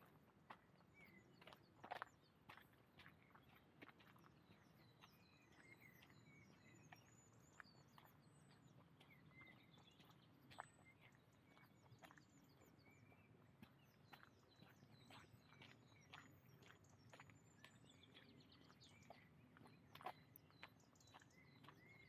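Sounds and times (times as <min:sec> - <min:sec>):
footsteps on forest path: 0:00.0 - 0:22.0
small birds chirping: 0:00.0 - 0:22.0.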